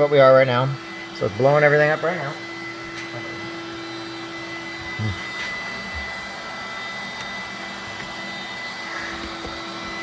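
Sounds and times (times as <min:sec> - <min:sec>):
electric air pump blowing: 0:00.0 - 0:10.0.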